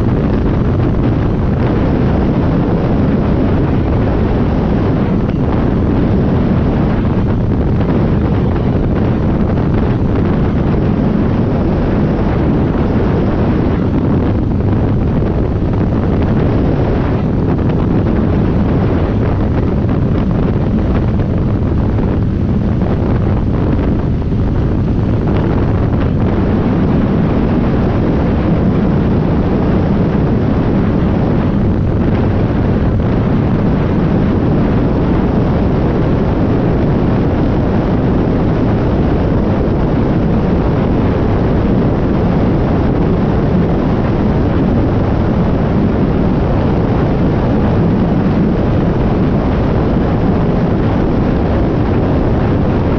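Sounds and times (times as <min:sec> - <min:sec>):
engine drone: 0:00.0 - 0:52.9
wind buffeting microphone: 0:00.0 - 0:52.9.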